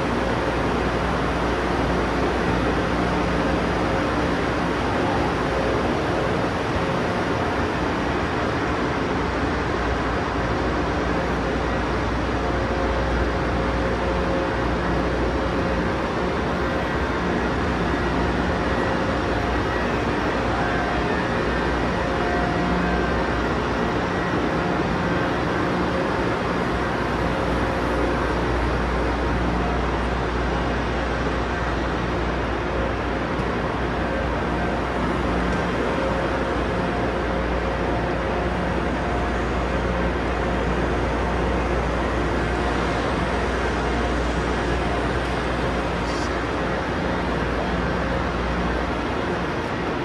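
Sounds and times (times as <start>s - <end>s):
ventilation hum and rushing: 0.0s - 50.0s.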